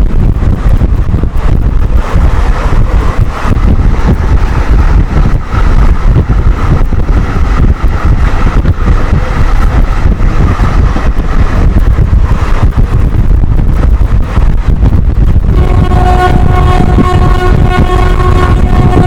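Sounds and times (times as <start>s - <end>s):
train running rumble: 0.0s - 19.0s
wind buffeting microphone: 0.0s - 19.0s.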